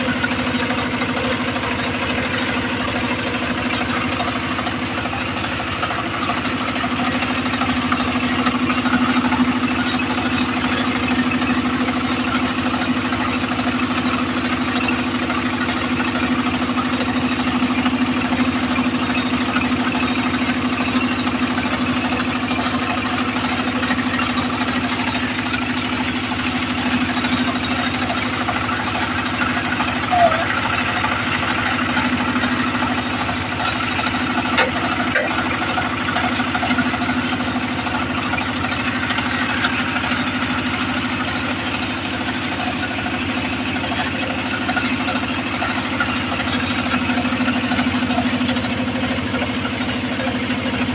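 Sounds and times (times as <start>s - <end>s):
sawmill engine humming: 0.0s - 50.9s.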